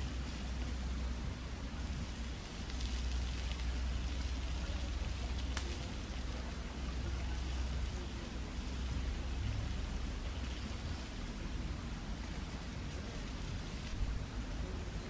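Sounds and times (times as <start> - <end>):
low rumble: 0.0 - 15.0
wood fire crackling: 0.0 - 15.0.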